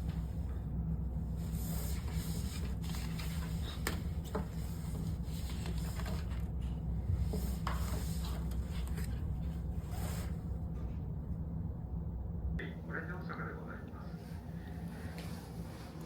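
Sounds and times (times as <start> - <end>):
low hum of ship machinery: 0.0 - 16.0.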